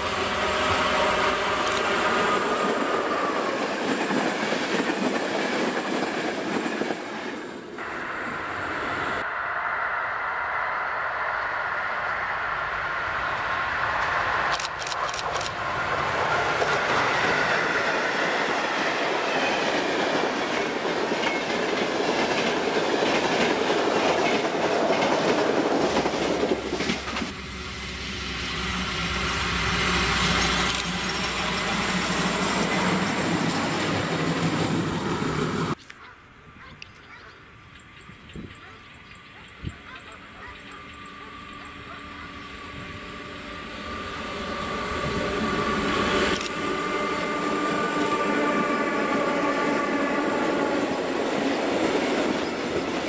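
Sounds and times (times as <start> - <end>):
train passing at speed: 0.0 - 35.8, 37.5 - 53.0
rail draisine engine hum: 0.0 - 53.0.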